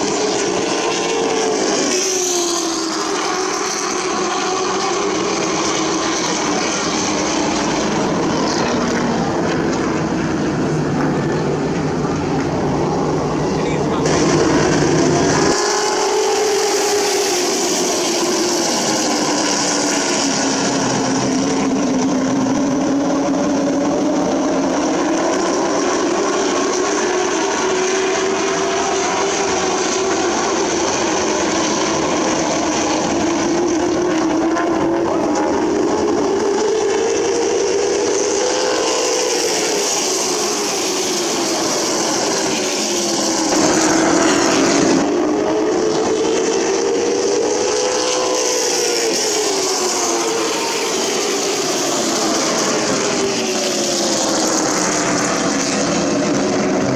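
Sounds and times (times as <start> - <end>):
racing car engines droning: 0.0 - 56.9.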